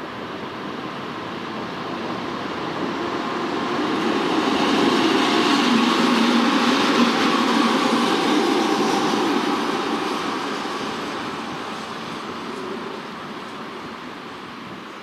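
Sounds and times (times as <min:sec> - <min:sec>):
diesel locomotive passing: 0:00.0 - 0:15.0.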